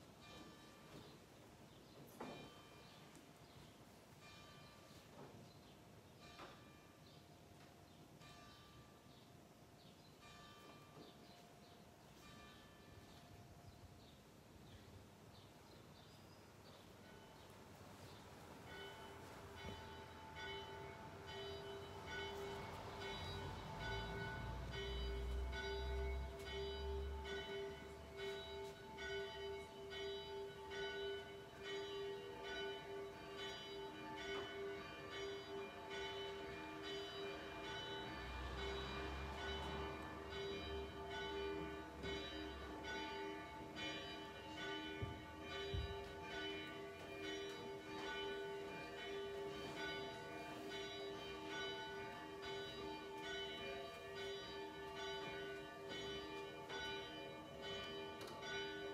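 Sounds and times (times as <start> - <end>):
church bells ringing: 0.0 - 14.2, 16.8 - 58.9.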